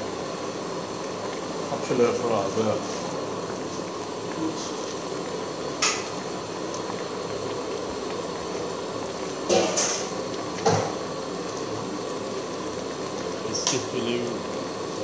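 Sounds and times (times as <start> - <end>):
soup boiling with hiss: 0.0 - 15.0.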